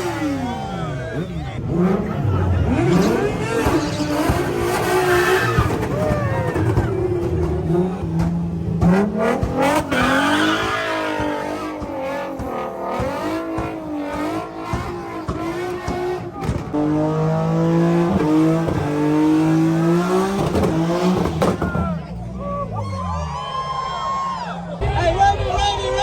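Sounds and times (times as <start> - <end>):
car engine revving: 0.0 - 23.1.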